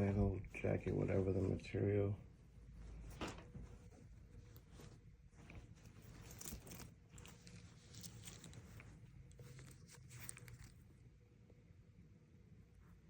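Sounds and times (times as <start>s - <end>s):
jacket fabric rustling: 0.0s - 11.1s.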